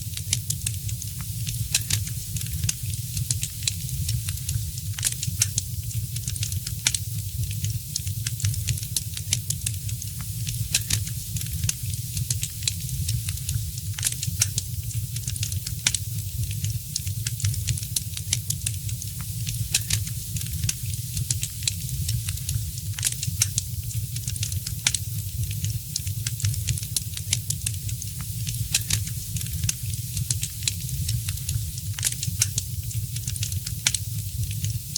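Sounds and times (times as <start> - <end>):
wood fire crackling: 0.0 - 34.9
fire pops and snaps: 0.2 - 34.8.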